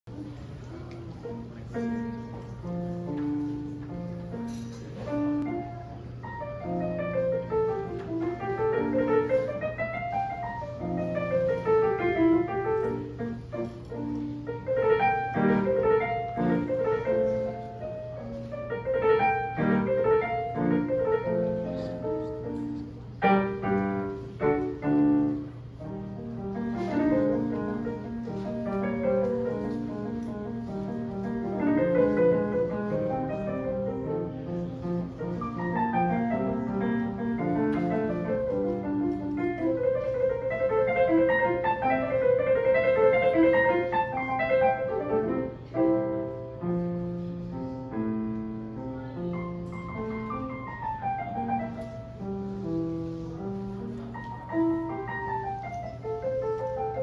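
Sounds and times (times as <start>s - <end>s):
keyboard piano arpeggios: 0.0s - 57.0s.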